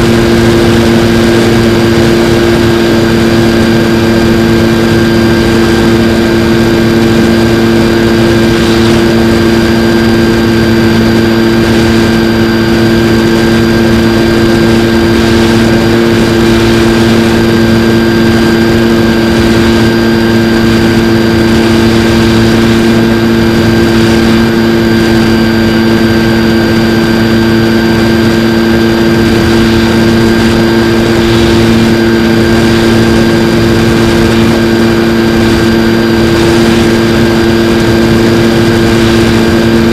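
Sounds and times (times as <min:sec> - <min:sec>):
electric motor and propeller hum: 0:00.0 - 0:39.9.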